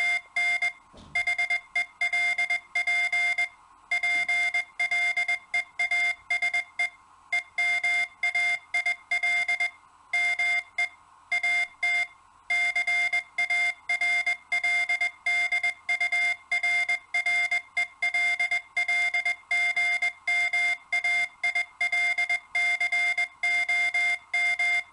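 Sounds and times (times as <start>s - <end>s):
morse code beeps: 0.0s - 24.9s.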